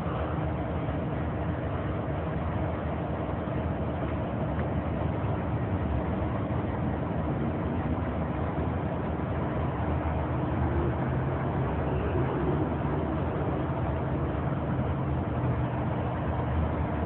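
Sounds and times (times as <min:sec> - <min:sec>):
vehicle running rumble: 0:00.0 - 0:17.0.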